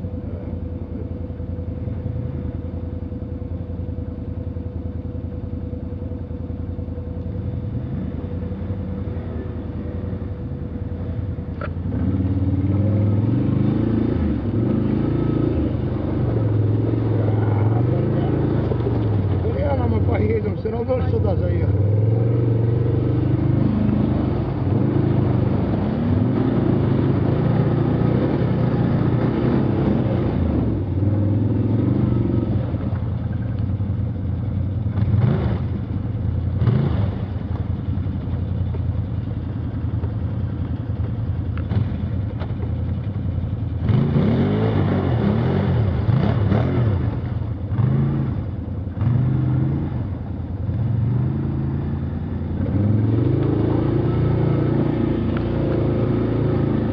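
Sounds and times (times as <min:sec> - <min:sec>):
vehicle engine running: 0:00.0 - 0:56.9.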